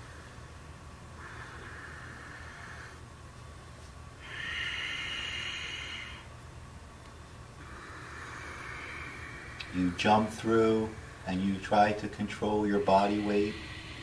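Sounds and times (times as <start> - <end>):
person breathing slowly: 0.0 - 3.1, 4.2 - 6.3, 7.6 - 14.0
faint low hum: 0.0 - 14.0.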